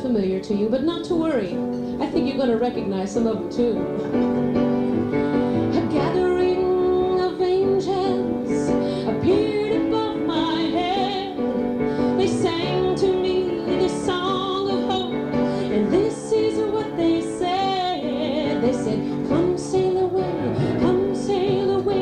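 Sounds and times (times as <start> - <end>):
woman singing a ballad: 0.0 - 3.9, 5.6 - 22.0
instrumental accompaniment: 0.0 - 22.0.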